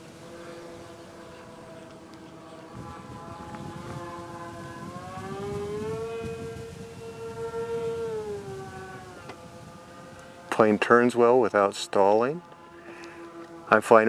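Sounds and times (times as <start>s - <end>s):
electric motors and propellers whining: 0.0s - 14.0s
wind rumbling on microphone: 0.0s - 14.0s.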